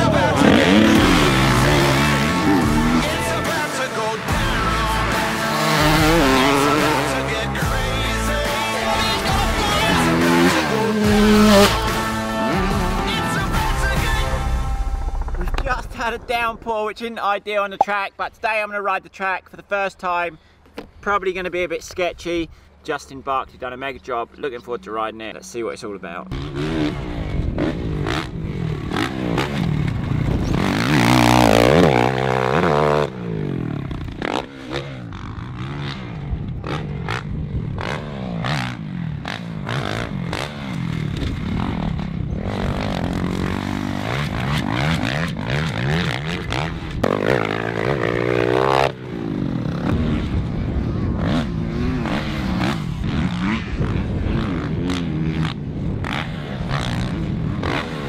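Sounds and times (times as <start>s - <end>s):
motocross bike engine revving: 0.0s - 16.2s, 26.2s - 58.0s.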